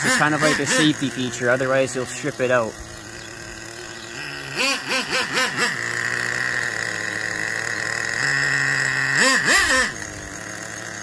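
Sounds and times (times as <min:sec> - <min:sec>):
small nitro engine revving: 0:00.0 - 0:11.0.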